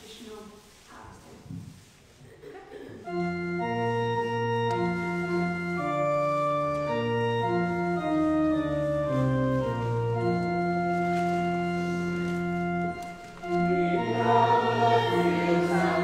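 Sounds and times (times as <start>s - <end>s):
church organ playing chords: 3.1s - 16.0s.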